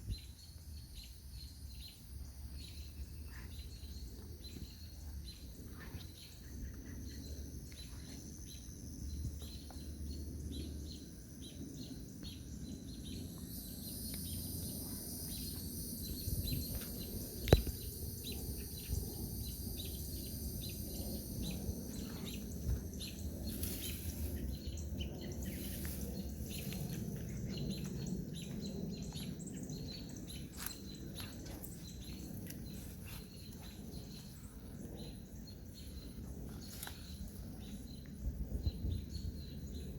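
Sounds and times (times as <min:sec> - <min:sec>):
insects trilling: 0:00.0 - 0:39.9
low rumble: 0:01.8 - 0:39.9.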